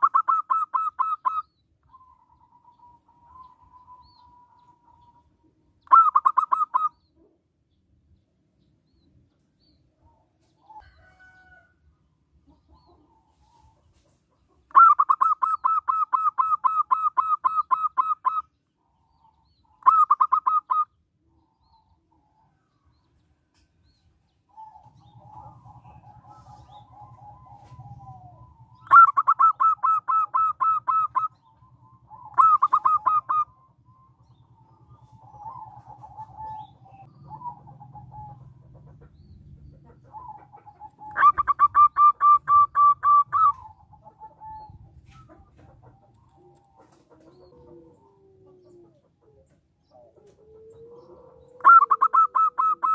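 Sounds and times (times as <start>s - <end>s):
dove staccato cooing: 0.0s - 7.4s, 12.4s - 22.6s, 24.5s - 52.9s.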